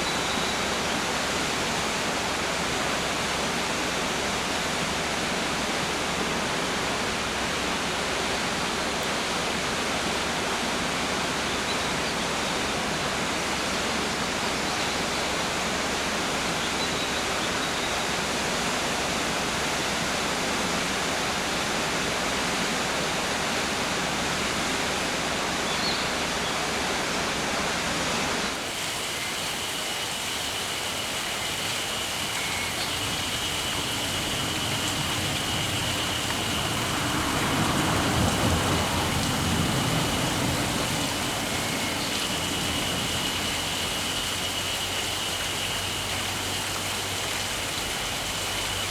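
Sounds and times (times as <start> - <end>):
mountain stream rushing: 0.0 - 48.9.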